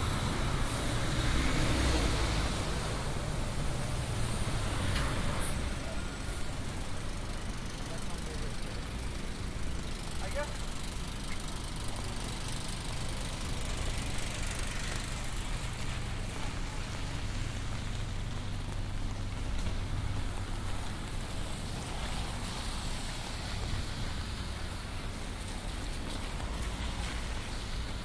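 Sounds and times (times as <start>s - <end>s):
rain falling on street: 0.0s - 28.0s
traffic rumble: 0.0s - 28.0s.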